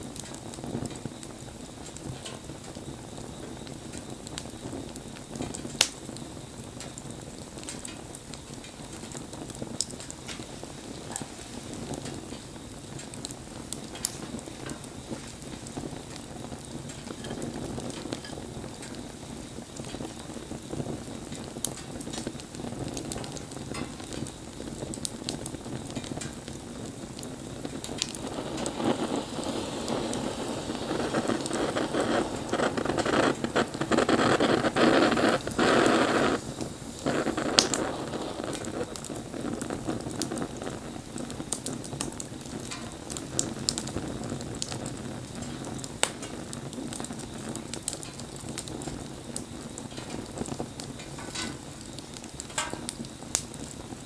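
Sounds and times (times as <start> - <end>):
wood bonfire crackling and popping: 0.0 - 54.0
loud rushing fire: 10.4 - 54.0.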